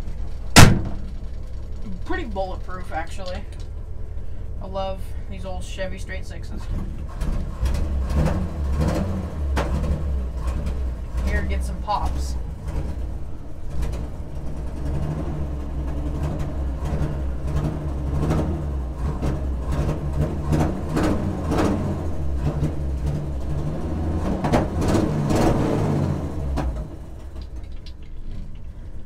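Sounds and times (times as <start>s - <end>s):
exhaust pops: 0.0s - 4.8s, 5.4s - 29.0s
car engine revving: 0.0s - 29.0s.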